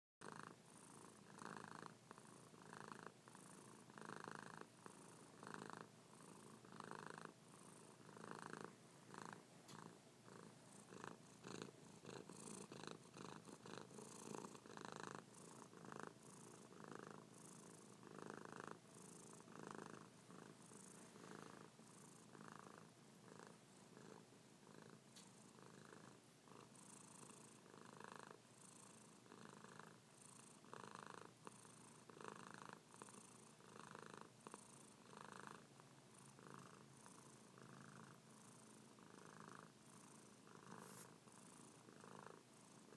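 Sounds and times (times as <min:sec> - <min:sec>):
cat purring softly: 0:00.2 - 0:42.9.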